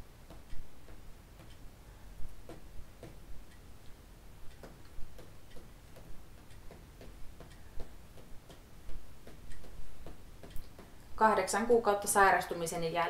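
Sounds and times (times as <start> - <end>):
steady ticking: 0.0 - 13.0.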